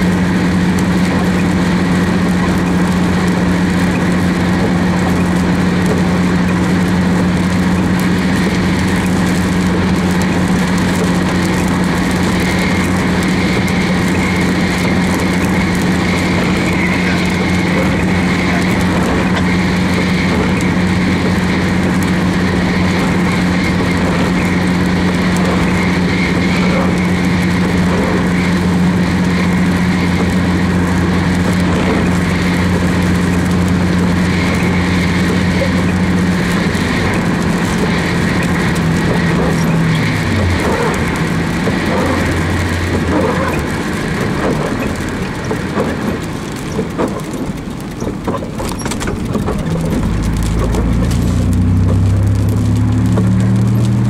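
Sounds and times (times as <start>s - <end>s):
engine and road drone: 0.0s - 54.0s
tyres hissing on wet pavement: 0.0s - 54.0s.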